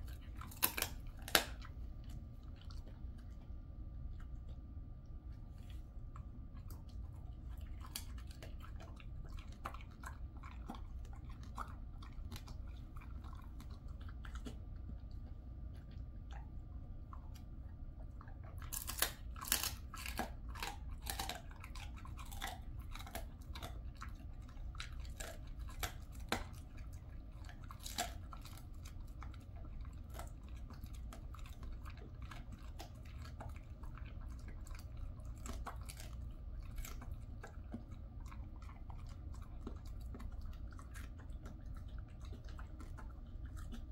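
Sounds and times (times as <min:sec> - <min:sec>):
dog crunching a bone: 0:00.0 - 0:43.9.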